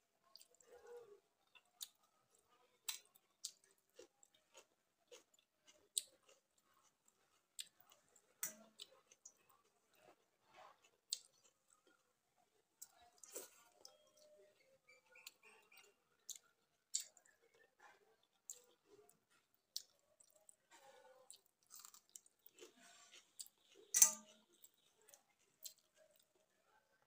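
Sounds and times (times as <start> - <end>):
person chewing: 0.3 - 26.5.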